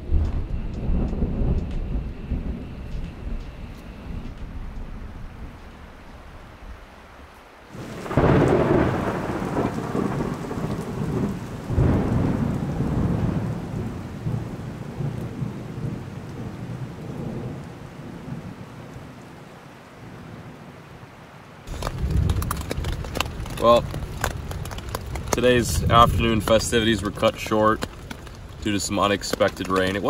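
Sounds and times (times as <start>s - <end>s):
thunder rolling: 0.0s - 6.8s, 7.7s - 18.6s, 21.7s - 30.0s
steady rain: 0.0s - 30.0s.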